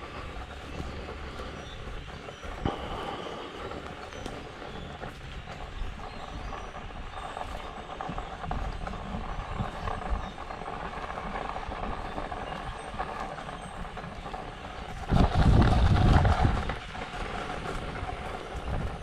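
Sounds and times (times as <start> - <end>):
footsteps on dirt trail: 0.0 - 19.0.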